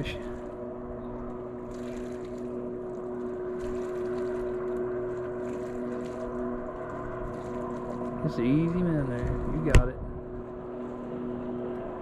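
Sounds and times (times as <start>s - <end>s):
small boat motor humming: 0.0s - 12.0s.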